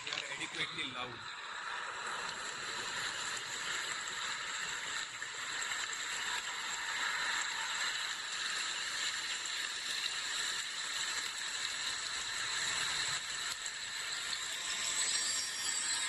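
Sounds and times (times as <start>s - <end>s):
hissing rattling sound effects on speaker: 0.0s - 16.0s.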